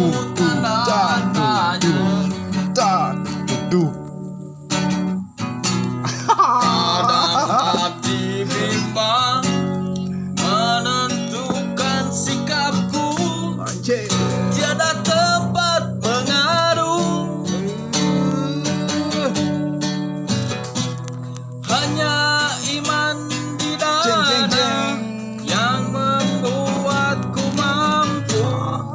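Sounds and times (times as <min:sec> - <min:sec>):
man singing: 0:00.0 - 0:04.1, 0:06.2 - 0:19.8, 0:21.6 - 0:28.9
acoustic guitar strumming: 0:00.0 - 0:28.9.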